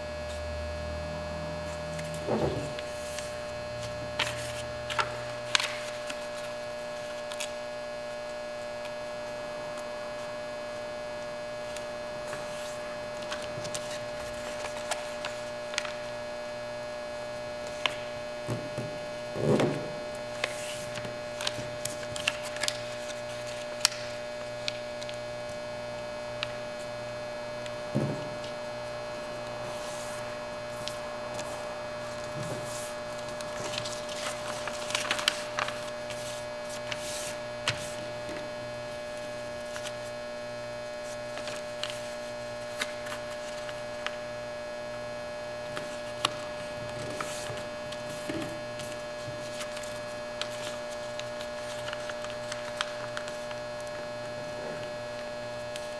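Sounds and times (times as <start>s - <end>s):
electrical hum: 0.0s - 55.9s
paper rustling and creasing: 1.6s - 10.4s, 11.1s - 16.4s, 17.0s - 26.9s, 27.6s - 40.2s, 40.9s - 44.3s, 45.6s - 55.9s.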